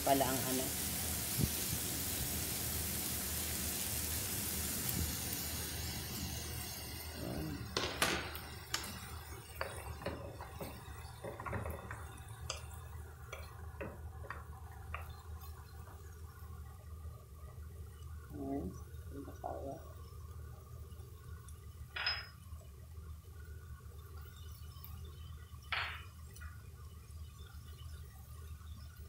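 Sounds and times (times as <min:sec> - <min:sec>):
liver and onions sizzling in a pan: 0:00.0 - 0:29.0.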